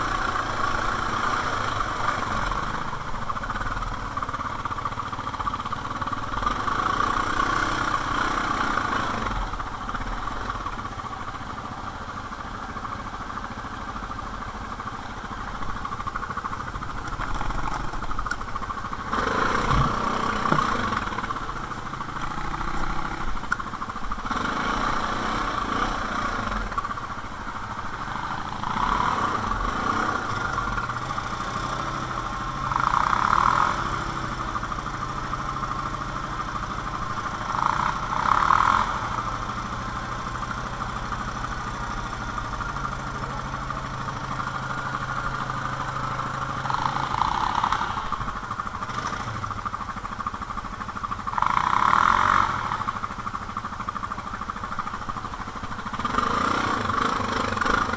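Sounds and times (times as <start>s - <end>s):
quad bike engine revving: 0.0s - 57.9s.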